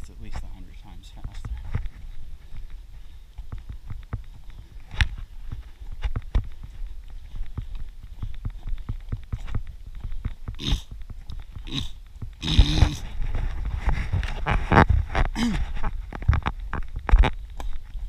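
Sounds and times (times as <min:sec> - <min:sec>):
running footsteps on dirt trail: 0:00.0 - 0:18.0.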